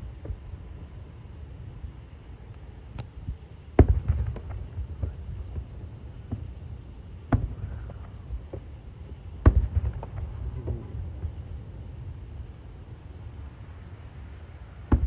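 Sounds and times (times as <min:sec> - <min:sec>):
distant fireworks booming: 0:00.0 - 0:01.8, 0:03.2 - 0:15.0.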